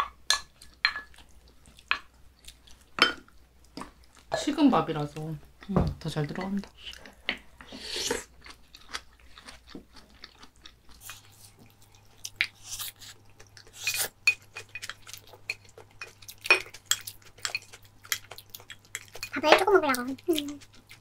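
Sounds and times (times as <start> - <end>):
chewing: 0.6 - 4.3, 6.6 - 21.0.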